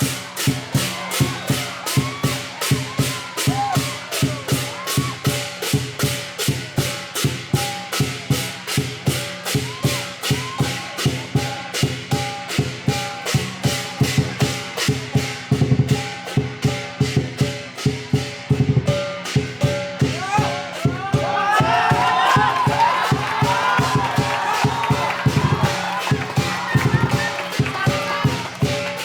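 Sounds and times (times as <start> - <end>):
cymbals clashing: 0.0 - 29.0
large drum beating: 0.0 - 29.0.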